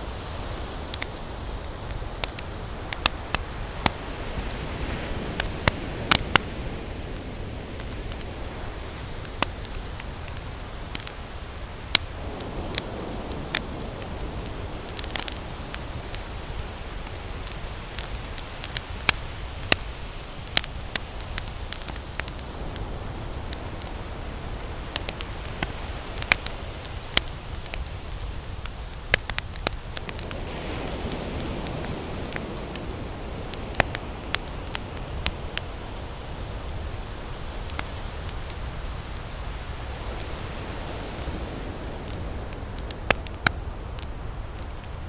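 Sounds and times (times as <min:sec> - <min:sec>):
campfire crackling and popping: 0:00.0 - 0:45.0
low rumbling hiss of fire: 0:00.0 - 0:45.0.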